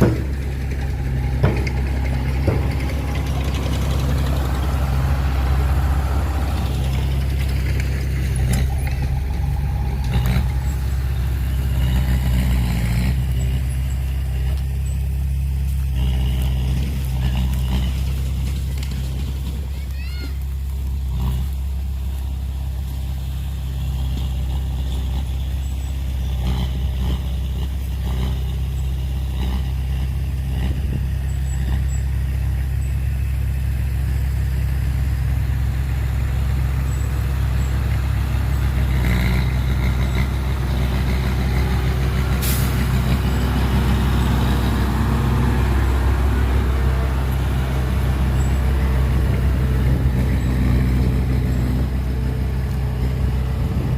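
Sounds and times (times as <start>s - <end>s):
dump truck diesel engine running: 0.0s - 53.9s.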